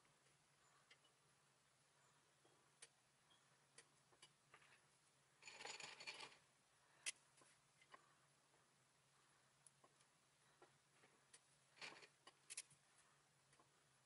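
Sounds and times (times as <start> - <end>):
soft rustle: 2.0 - 14.0.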